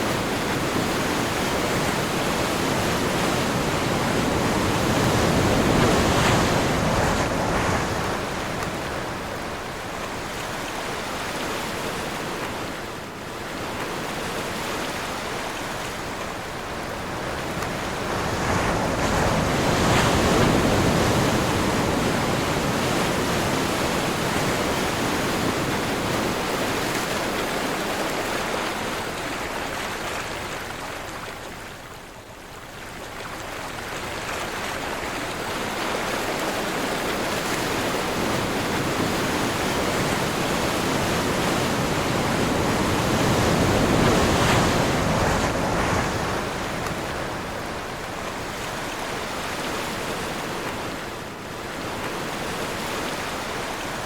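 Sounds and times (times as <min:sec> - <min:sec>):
ocean waves breaking: 0:00.0 - 0:31.9, 0:32.6 - 0:54.0
wind: 0:00.0 - 0:54.0.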